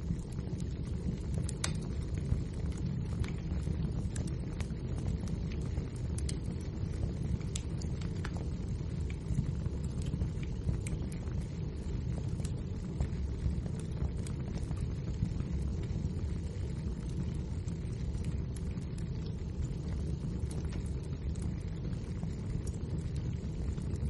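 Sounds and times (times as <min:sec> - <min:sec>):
low rumble of flames: 0:00.0 - 0:24.0
wood fire crackles and pops: 0:00.0 - 0:24.0.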